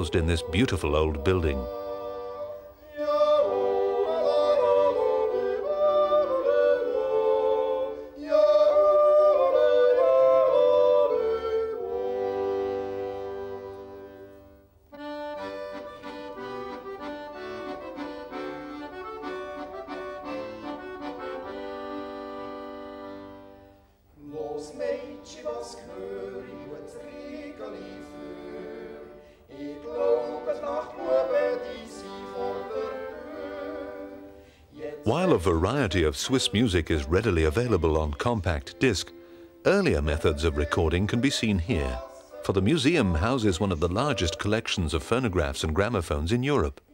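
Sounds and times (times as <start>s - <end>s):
folk accordion music: 0.0s - 46.0s.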